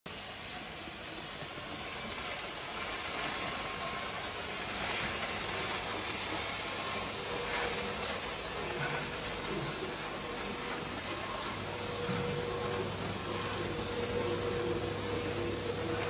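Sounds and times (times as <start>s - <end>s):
faint machine whine: 0.1s - 16.0s
machinery hum and hiss: 0.1s - 16.0s.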